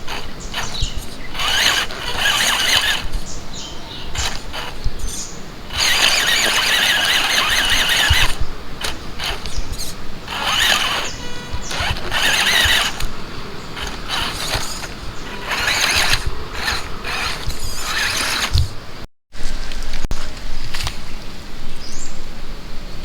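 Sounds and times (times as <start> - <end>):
electric motor and gearbox whining: 0.0 - 19.1.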